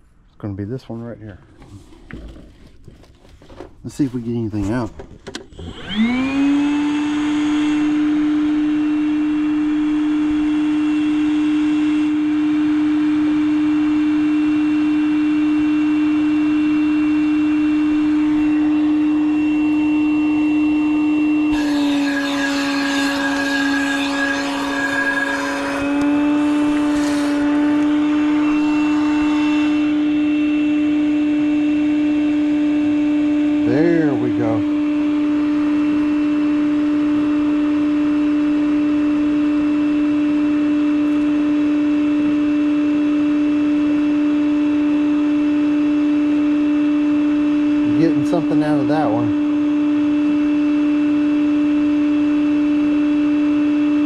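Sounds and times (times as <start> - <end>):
shop vacuum whining: 1.0 - 54.0.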